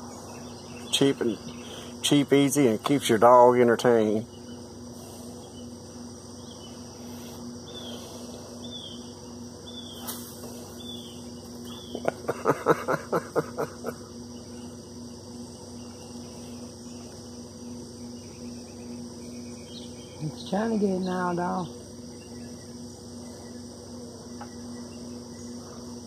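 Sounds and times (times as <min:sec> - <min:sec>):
constant low hum: 0:00.0 - 0:26.0
insects chirping and buzzing: 0:00.0 - 0:26.0.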